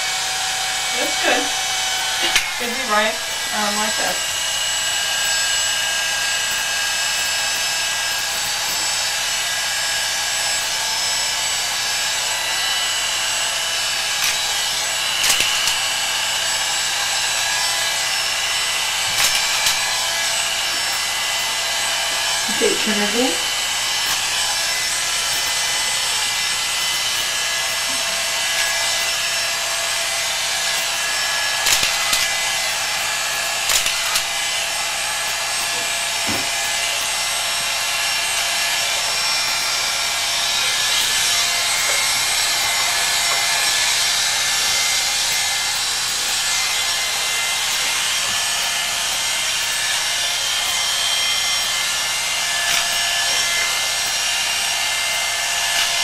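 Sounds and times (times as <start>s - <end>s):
electric hair clippers cutting: 0.0s - 56.0s.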